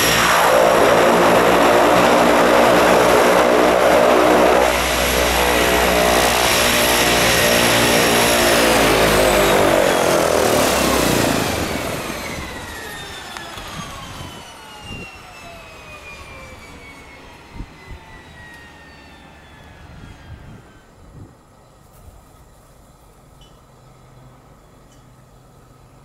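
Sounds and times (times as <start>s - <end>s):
airplane passing by: 0.0s - 23.0s.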